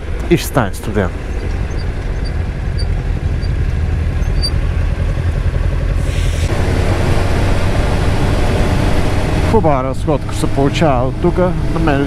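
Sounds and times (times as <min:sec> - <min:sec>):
motorcycle engine running: 0:01.0 - 0:12.0.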